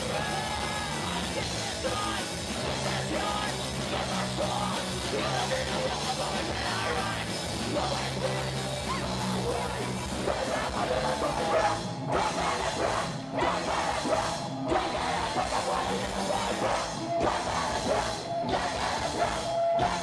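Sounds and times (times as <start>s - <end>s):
bass guitar: 0.0s - 20.0s
drum kit: 0.0s - 20.0s
electric guitar: 0.0s - 20.0s.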